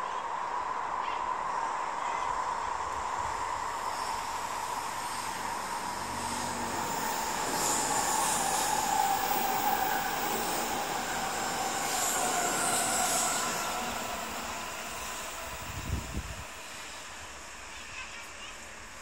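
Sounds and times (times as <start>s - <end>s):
bullet train running past: 0.0s - 19.0s.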